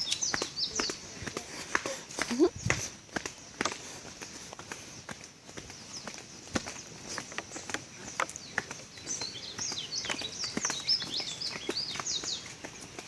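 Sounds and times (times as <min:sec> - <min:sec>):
bird chirping: 0:00.0 - 0:01.7, 0:02.3 - 0:13.0
footsteps on a path: 0:00.0 - 0:13.0.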